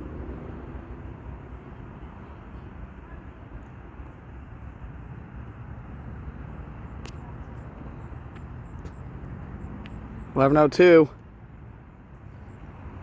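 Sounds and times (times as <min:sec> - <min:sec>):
low engine hum: 0:00.0 - 0:13.0
road traffic rumble: 0:00.0 - 0:13.0.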